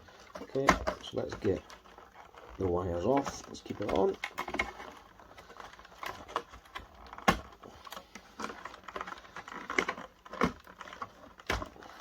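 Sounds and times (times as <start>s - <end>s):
plastic and metal parts clicking: 0.0s - 12.0s.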